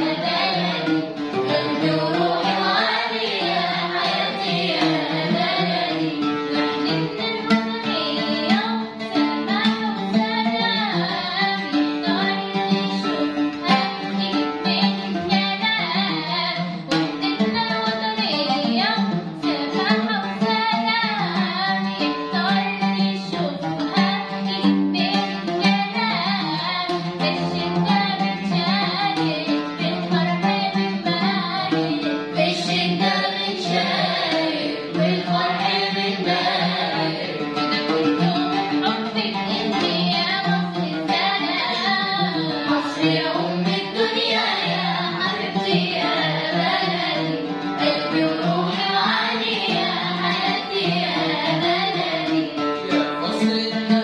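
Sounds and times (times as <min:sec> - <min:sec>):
children's choir singing: 0:00.0 - 0:54.0
instrumental accompaniment: 0:00.0 - 0:54.0.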